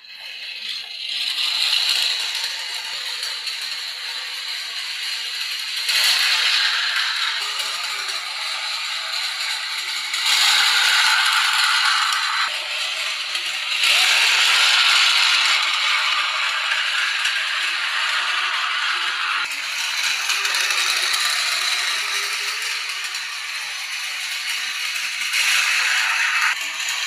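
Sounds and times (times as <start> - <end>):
model train rattling on track: 0.0 - 27.0.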